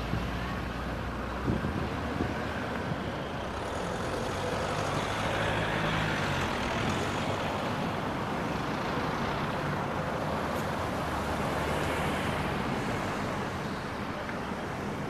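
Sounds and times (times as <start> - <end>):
road noise hiss: 0.0 - 15.0.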